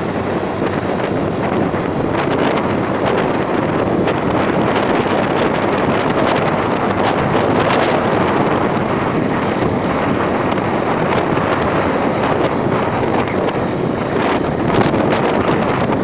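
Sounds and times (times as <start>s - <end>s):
vehicle running noise: 0.0s - 16.0s
wind buffeting microphone: 0.0s - 16.0s.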